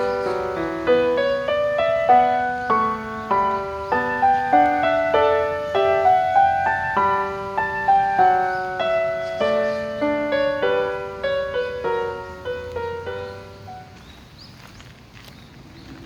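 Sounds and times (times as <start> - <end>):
gentle piano music: 0.0 - 14.5.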